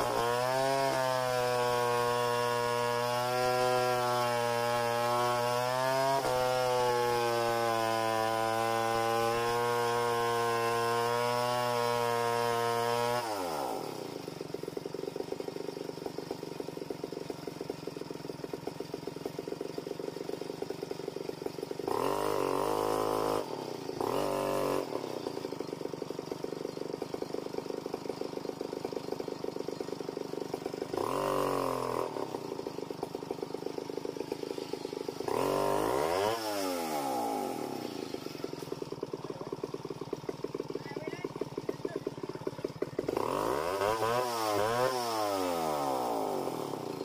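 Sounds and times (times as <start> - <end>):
chainsaw idling and revving: 0.0 - 47.0.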